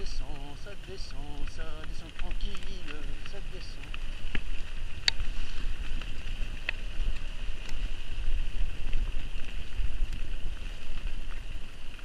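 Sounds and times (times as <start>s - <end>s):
bike tyres rolling on trail: 0.0s - 12.0s
sharp clicks of bike on bumps: 0.0s - 12.0s
wind rumbling on microphone: 0.0s - 12.0s.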